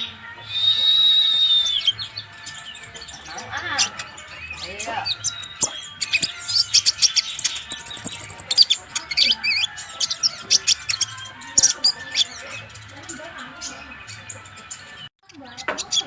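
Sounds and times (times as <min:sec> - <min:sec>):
bird singing high chirps and trills: 0:00.0 - 0:16.0.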